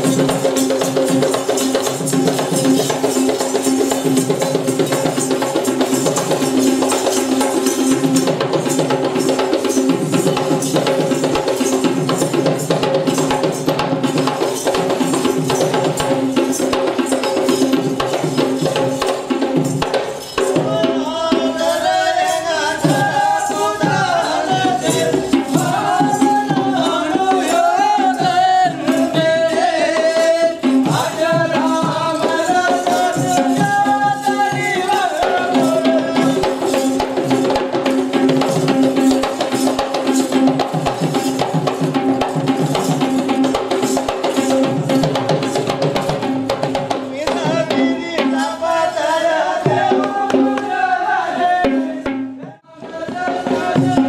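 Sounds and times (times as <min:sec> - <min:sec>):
metallic jingling: 0:00.0 - 0:47.0
fast drumming: 0:00.0 - 0:54.0.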